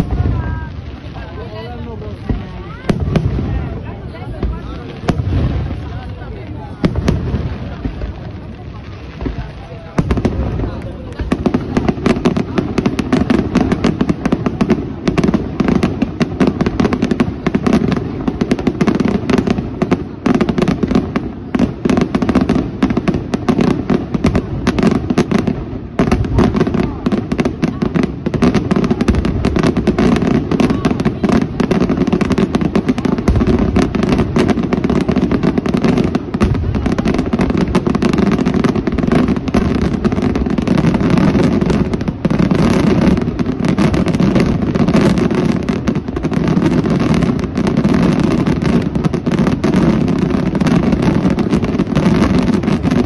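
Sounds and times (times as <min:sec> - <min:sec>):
crackling firework reports: 0:00.0 - 0:53.0.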